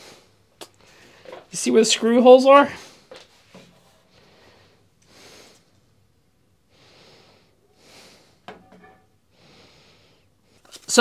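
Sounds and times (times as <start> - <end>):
soft breaths: 0.0 - 1.6, 2.7 - 10.8.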